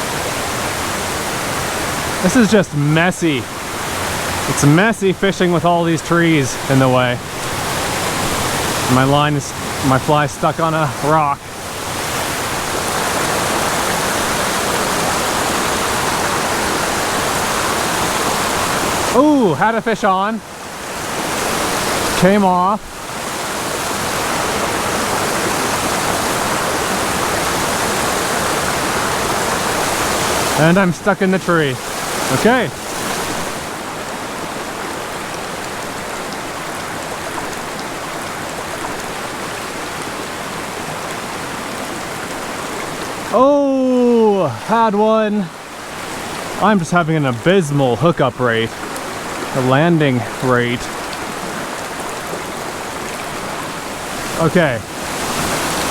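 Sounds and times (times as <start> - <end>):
creek water rushing over rocks: 0.0 - 55.9.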